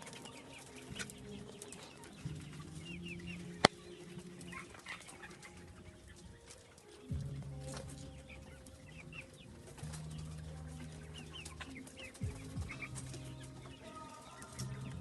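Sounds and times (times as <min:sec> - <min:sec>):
chickens chirping: 0:00.0 - 0:15.0.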